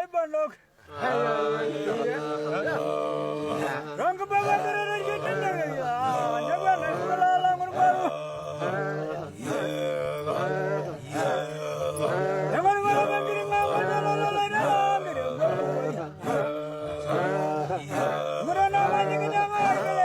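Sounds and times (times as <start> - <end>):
men chanting: 0.8 - 20.0.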